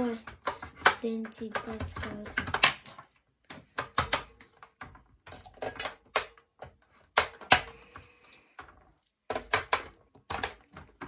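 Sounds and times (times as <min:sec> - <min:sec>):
plastic clicks and knocks: 0:00.0 - 0:11.0.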